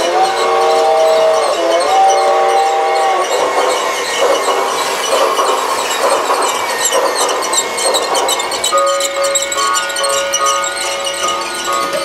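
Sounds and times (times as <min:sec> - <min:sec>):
toy train running on track: 0:00.0 - 0:12.0
train clicks: 0:00.0 - 0:12.0.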